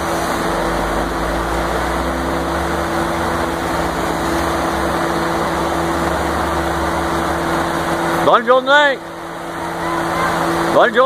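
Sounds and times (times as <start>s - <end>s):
car engines driving past: 0.0s - 10.8s
blower fan humming: 0.0s - 11.0s.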